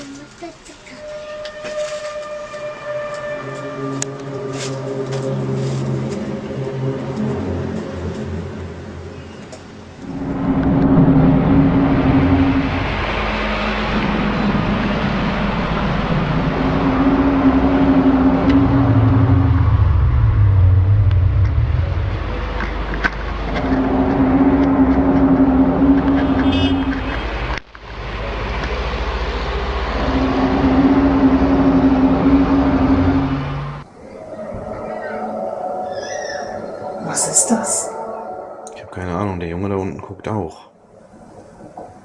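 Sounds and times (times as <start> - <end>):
constant low rumble: 0.0 - 42.0
droning horn-like tones: 0.8 - 40.0.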